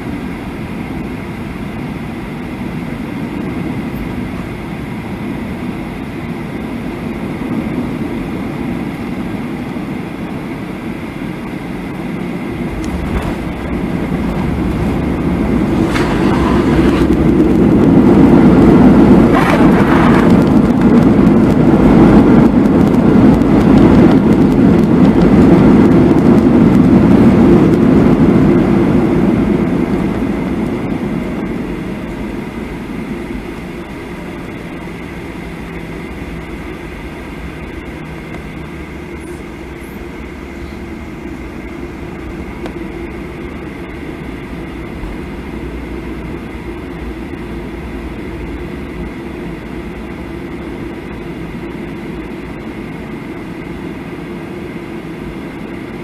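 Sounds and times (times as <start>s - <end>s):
engine reverse thrust roar: 0.0s - 56.0s
wheel and airframe rumble: 0.0s - 56.0s.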